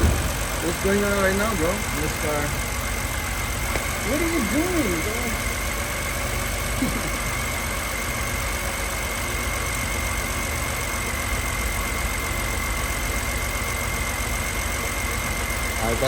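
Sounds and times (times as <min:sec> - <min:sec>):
engine idling roughly with misfire: 0:00.0 - 0:16.0.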